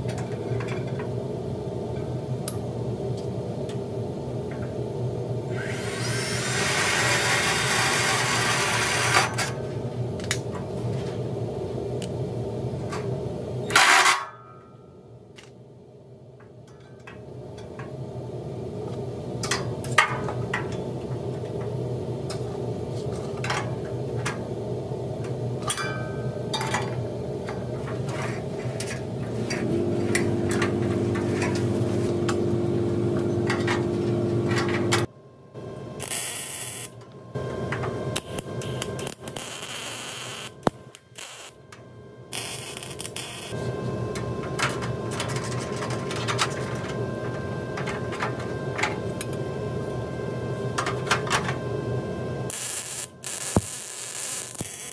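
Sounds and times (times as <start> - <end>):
steady low hum: 0.0 - 54.8.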